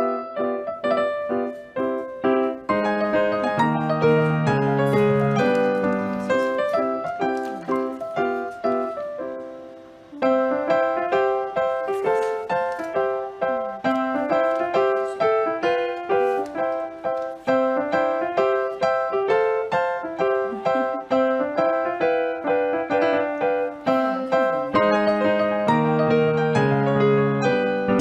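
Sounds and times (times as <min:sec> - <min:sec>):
simple piano tune: 0:00.0 - 0:28.0.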